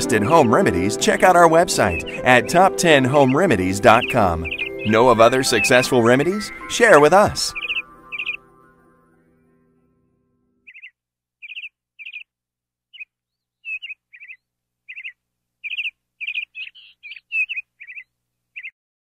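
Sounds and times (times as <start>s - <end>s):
small bird chirping: 0.0s - 5.8s, 6.5s - 8.4s, 10.6s - 18.8s.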